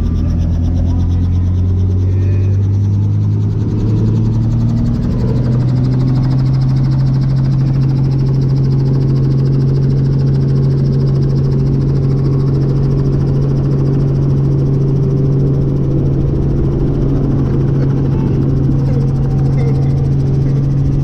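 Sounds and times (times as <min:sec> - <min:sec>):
helicopter droning: 0:00.0 - 0:21.0.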